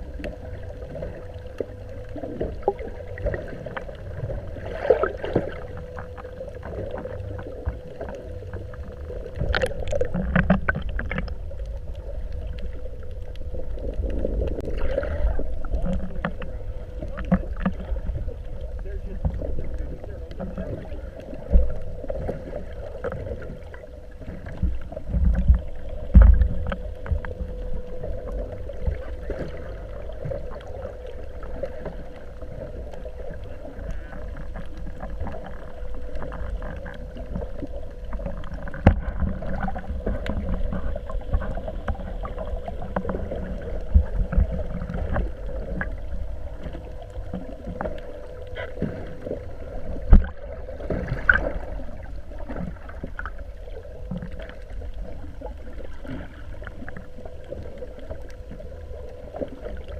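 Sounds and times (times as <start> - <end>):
faint steady hum: 0.0 - 59.9
water sloshing around boat: 0.0 - 59.9.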